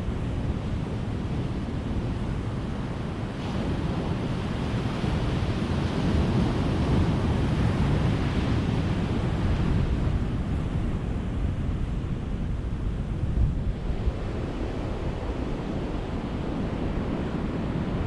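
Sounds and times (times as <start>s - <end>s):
ocean surf washing onto beach: 0.0s - 18.0s.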